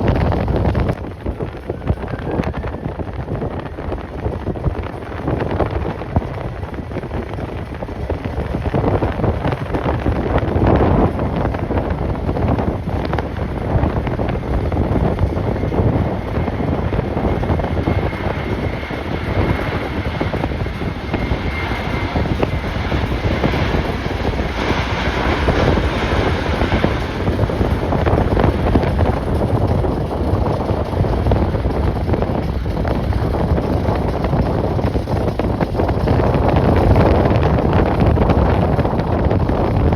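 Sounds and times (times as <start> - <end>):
faint high engine whine: 0.0 - 38.8
jet engines running: 0.0 - 39.9
wind buffeting microphone: 0.0 - 39.9.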